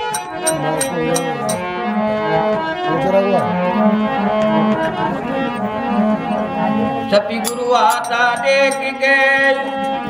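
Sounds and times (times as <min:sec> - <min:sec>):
harmonium melody: 0:00.0 - 0:10.0.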